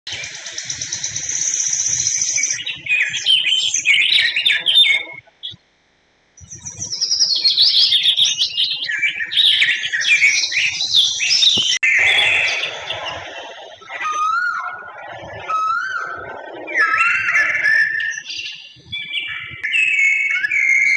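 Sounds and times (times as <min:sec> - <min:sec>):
birds chirping: 0:00.1 - 0:20.9.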